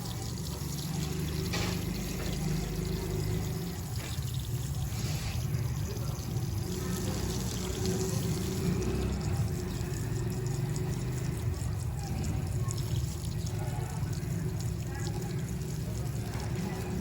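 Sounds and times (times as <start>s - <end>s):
water from hose splashing: 0.0s - 17.0s.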